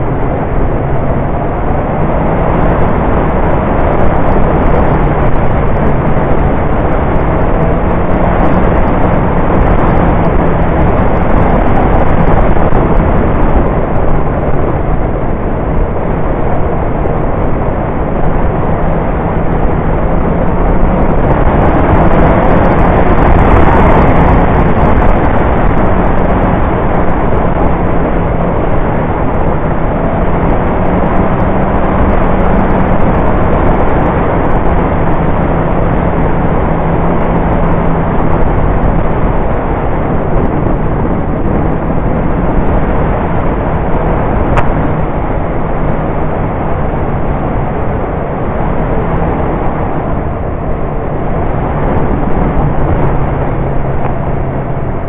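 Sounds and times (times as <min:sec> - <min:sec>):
motorcycle engine hum: 0:00.0 - 0:55.0
wind rush over microphone: 0:00.0 - 0:55.0.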